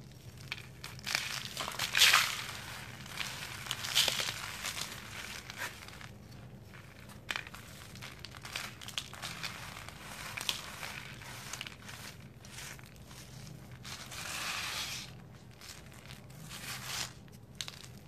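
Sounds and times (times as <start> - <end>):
dried cement chunks crushed by hand: 0.0 - 18.0.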